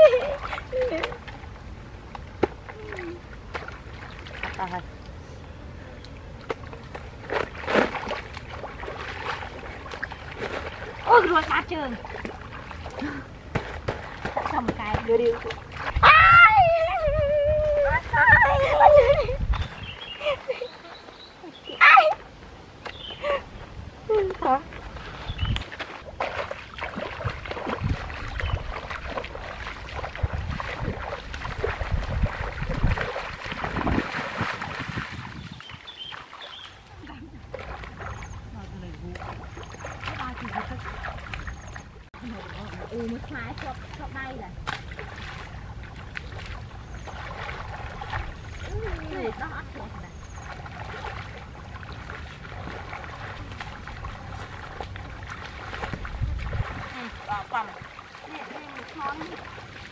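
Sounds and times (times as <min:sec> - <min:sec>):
feet splashing in water: 0:00.0 - 0:05.2, 0:05.8 - 0:59.9.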